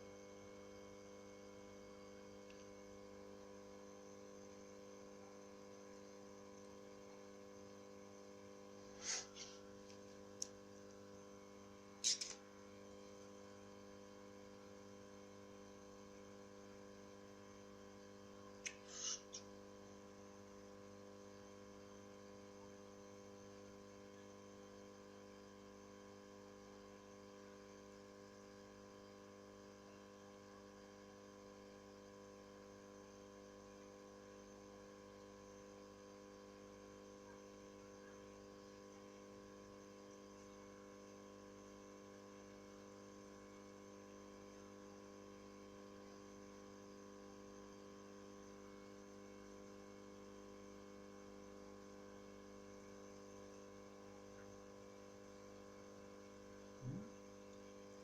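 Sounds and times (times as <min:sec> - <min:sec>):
faint electrical mains hum: 0:00.0 - 0:58.0.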